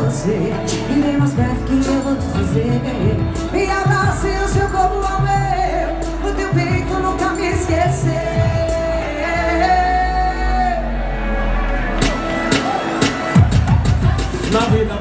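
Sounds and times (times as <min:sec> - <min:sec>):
live band playing pop song: 0:00.0 - 0:11.1, 0:11.9 - 0:15.0
person singing: 0:00.0 - 0:15.0.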